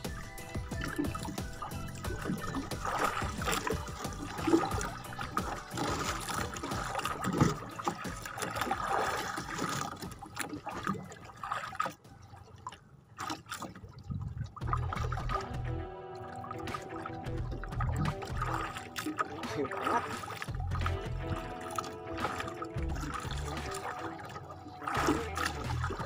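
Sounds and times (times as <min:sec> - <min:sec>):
water splashing against boat hull: 0:00.0 - 0:26.0.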